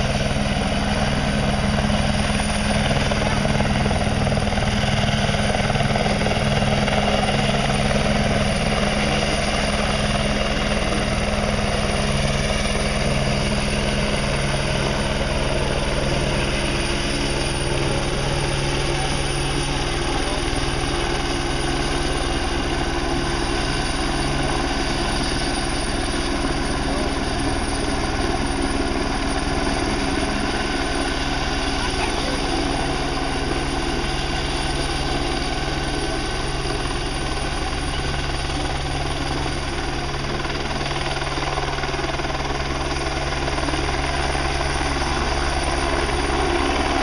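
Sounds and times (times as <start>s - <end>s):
helicopter rotors and engine: 0.0s - 47.0s.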